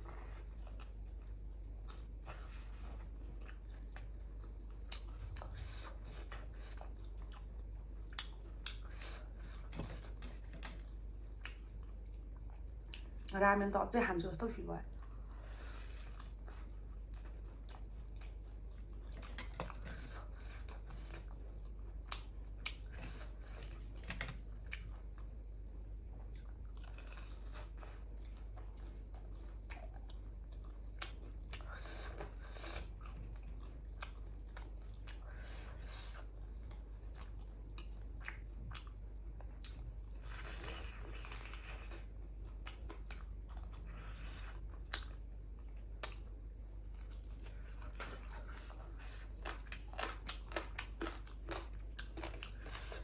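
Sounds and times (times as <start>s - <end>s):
person chewing: 0.0s - 13.3s, 15.0s - 53.0s.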